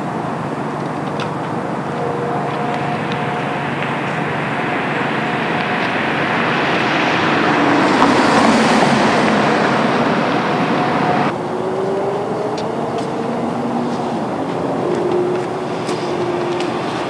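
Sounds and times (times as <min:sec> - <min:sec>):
steady traffic hum: 0:00.0 - 0:17.0
vehicle passing by: 0:00.1 - 0:17.0.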